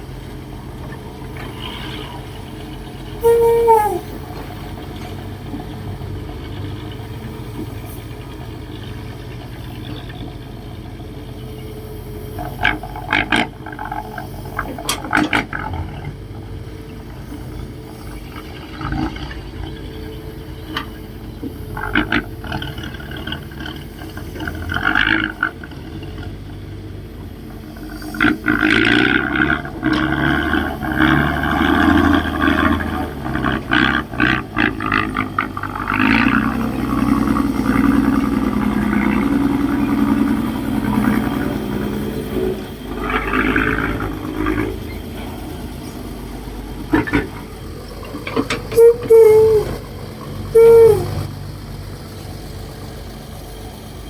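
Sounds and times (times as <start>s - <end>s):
diesel machinery revving: 0.0s - 54.0s.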